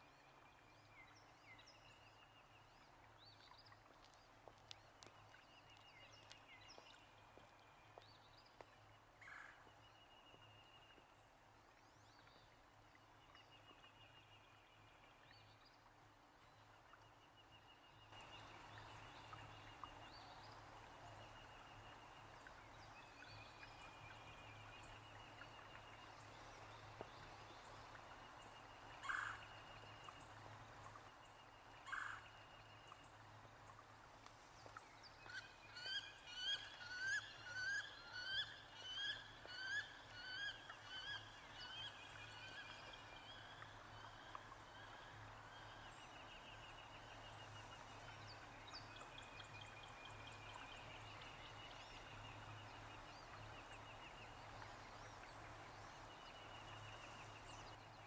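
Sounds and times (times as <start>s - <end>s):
low background hiss: 0.0s - 58.0s.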